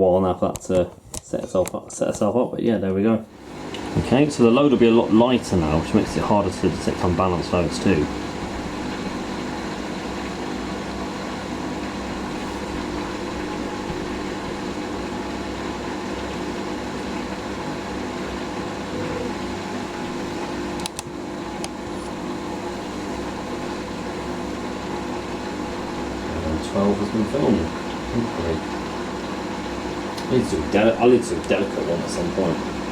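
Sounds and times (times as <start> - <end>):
washing machine motor humming: 2.0 - 32.9.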